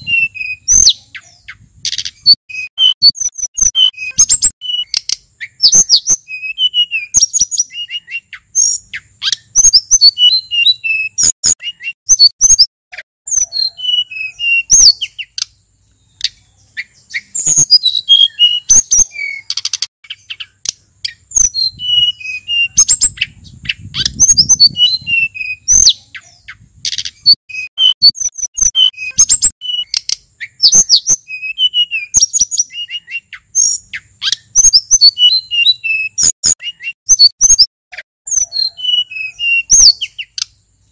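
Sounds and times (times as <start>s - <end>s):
songbird singing whistled notes: 0.0s - 12.7s, 13.3s - 40.9s.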